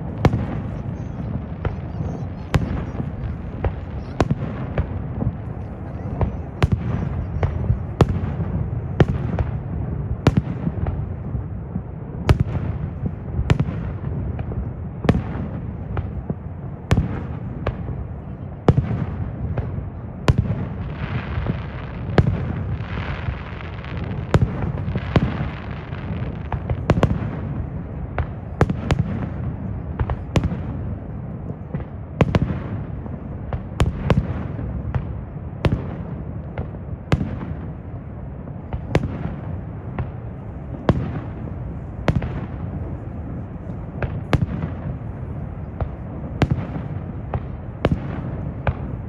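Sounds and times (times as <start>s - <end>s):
fireworks bangs: 0.0s - 49.0s
fireworks crackling: 0.0s - 49.0s.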